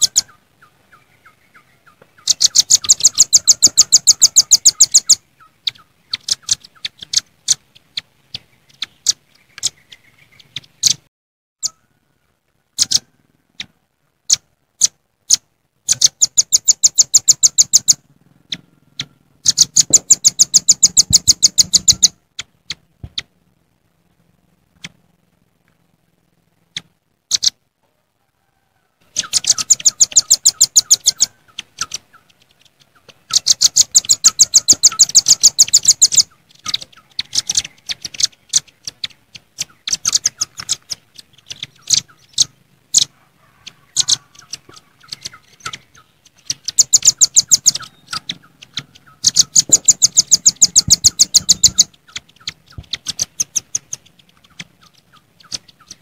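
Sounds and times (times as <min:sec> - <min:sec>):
nuthatches high chipping calls: 0:00.0 - 0:23.3, 0:26.7 - 0:27.6, 0:29.0 - 0:56.0.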